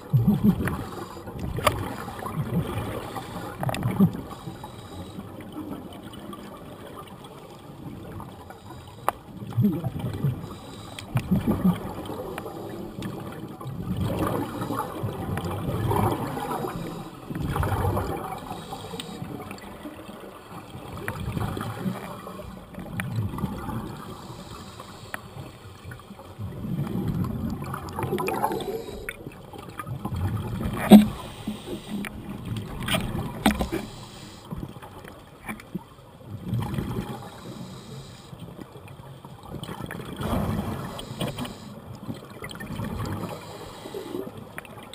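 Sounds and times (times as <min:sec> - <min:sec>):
underwater bubbles gurgling: 0:00.0 - 0:44.9.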